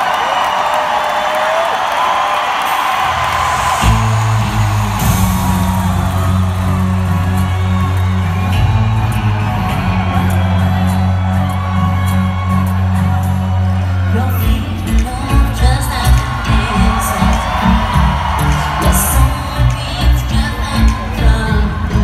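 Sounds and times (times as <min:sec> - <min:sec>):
crowd screaming and whooping: 0:00.0 - 0:22.0
live pop concert music: 0:00.0 - 0:22.0
deep bass chords: 0:03.2 - 0:22.0.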